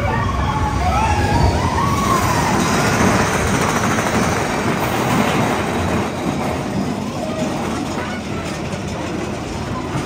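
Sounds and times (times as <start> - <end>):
roller coaster cars rumbling and clattering: 0.0 - 10.0.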